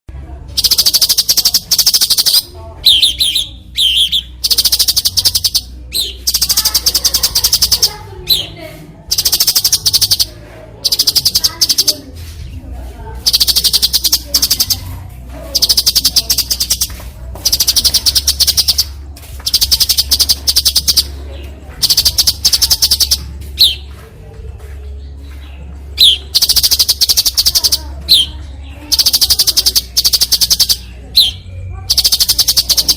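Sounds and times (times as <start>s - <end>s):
bird giving buzzy rattling calls: 0.6s - 8.5s, 9.1s - 12.0s, 13.2s - 14.8s, 15.5s - 21.2s, 21.8s - 23.8s, 26.0s - 28.3s, 28.9s - 32.9s.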